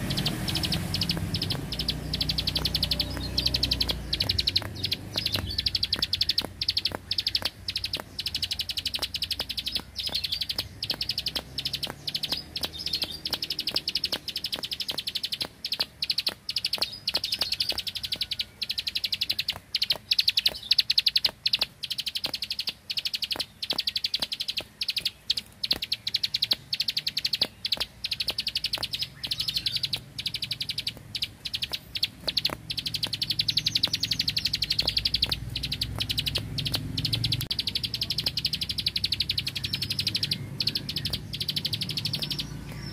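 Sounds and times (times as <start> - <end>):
bird singing rapid clicking notes: 0.0 - 42.9.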